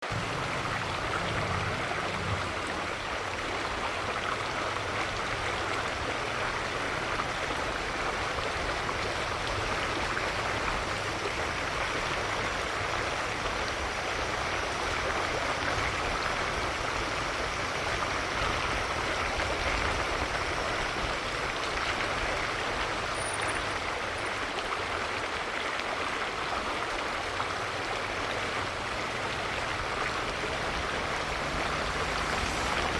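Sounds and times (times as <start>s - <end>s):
rush of flowing water: 0.0s - 32.9s.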